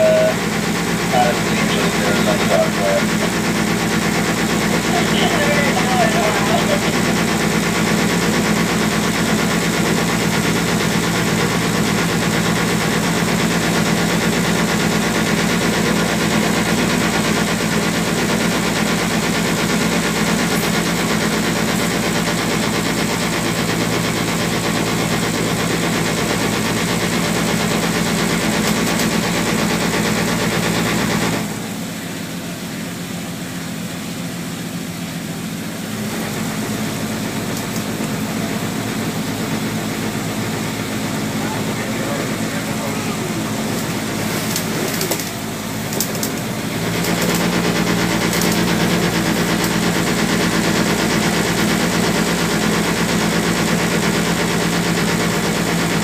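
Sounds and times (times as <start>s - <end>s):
ferry engine humming: 0.0s - 56.0s.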